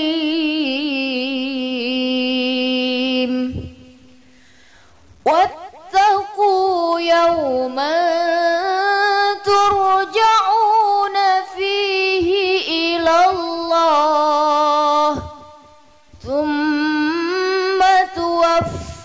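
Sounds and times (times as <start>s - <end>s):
person reciting melodically: 0.0s - 4.2s, 5.2s - 19.0s.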